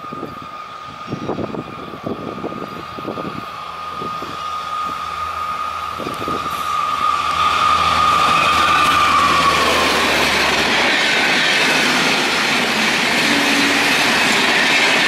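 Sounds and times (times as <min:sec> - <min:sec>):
approaching train: 0:00.0 - 0:15.0
high-pitched whine: 0:00.0 - 0:15.0.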